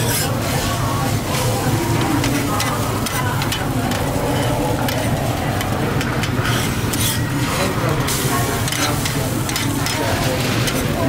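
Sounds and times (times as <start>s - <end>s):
metal spatulas scraping griddle: 0.0s - 0.7s, 1.3s - 11.0s
eggs sizzling on griddle: 0.0s - 11.0s.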